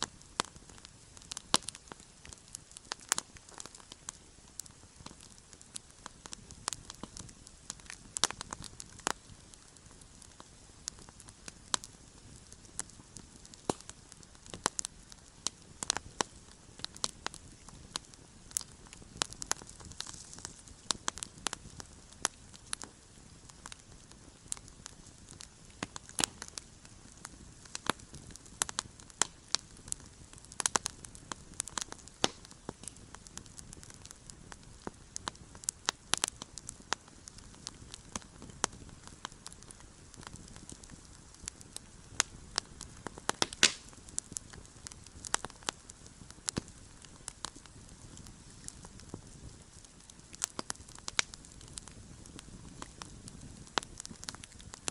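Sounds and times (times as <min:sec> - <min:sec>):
campfire crackling: 0:00.0 - 0:54.9.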